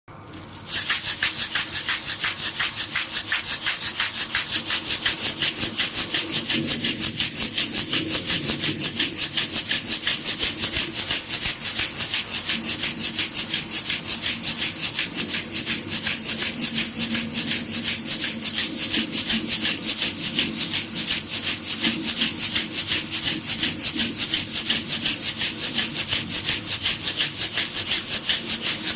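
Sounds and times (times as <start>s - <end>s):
baby rattle shaken: 0.3s - 28.9s.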